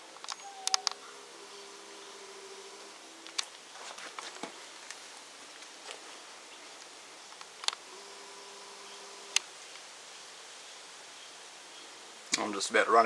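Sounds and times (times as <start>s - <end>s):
steady camera hum: 0.0s - 12.9s.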